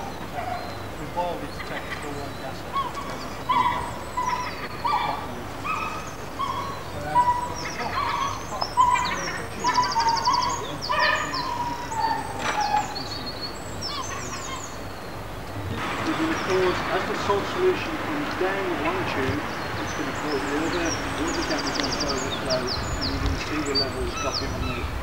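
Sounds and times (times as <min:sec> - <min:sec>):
bird trill: 0:00.0 - 0:25.0
birds calling: 0:00.0 - 0:25.0.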